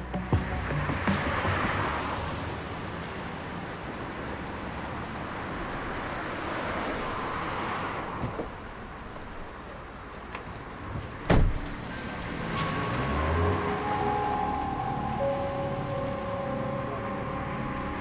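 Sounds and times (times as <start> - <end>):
vehicle running noise: 0.0 - 18.0.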